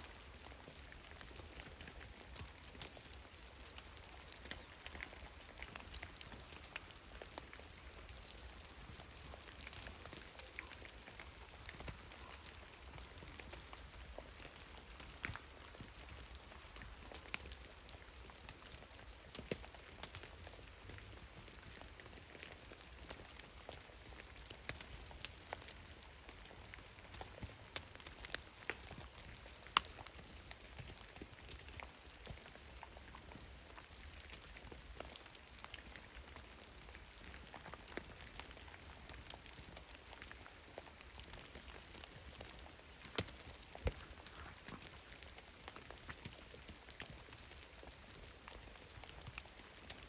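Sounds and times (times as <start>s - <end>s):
faint steady hiss: 0.0s - 50.0s
meltwater drips pattering: 0.0s - 50.0s.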